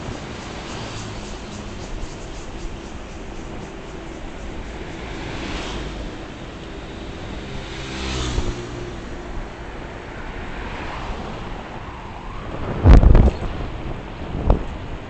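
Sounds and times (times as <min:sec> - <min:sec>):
road and wind noise: 0:00.0 - 0:15.0
vehicle engine: 0:00.0 - 0:15.0.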